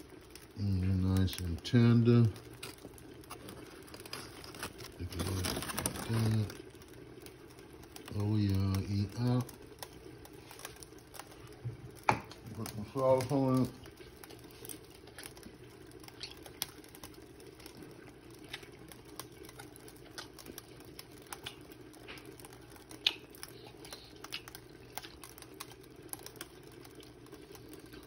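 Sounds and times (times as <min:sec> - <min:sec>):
foil and plastic bottle crinkling: 0:00.0 - 0:28.0
steady low hum: 0:00.0 - 0:28.0.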